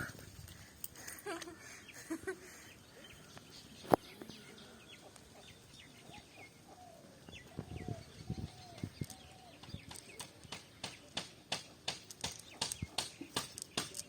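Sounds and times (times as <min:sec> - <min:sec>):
birds chirping: 0:00.0 - 0:14.0
longer lower bird calls: 0:01.6 - 0:14.0.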